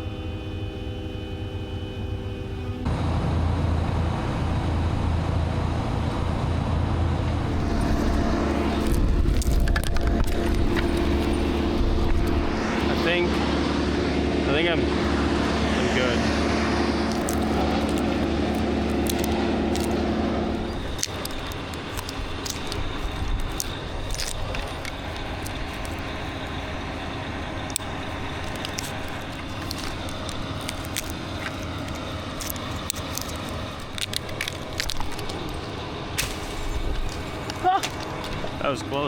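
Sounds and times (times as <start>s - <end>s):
crane engine running under load: 0.0s - 39.0s
branches crackling and snapping: 7.3s - 38.8s.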